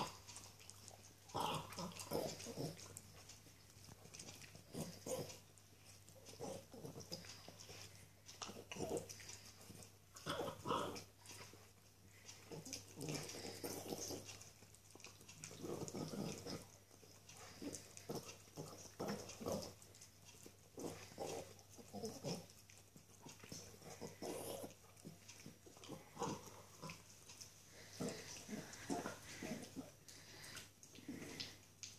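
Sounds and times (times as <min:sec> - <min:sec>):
dog chewing a bone: 0:00.0 - 0:31.9.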